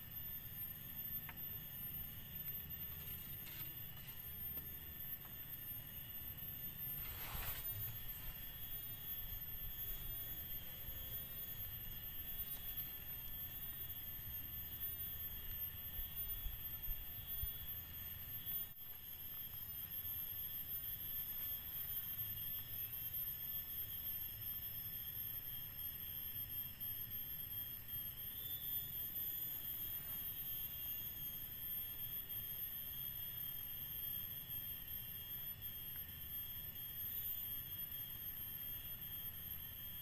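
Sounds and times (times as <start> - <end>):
insects droning chorus: 0.0 - 40.0.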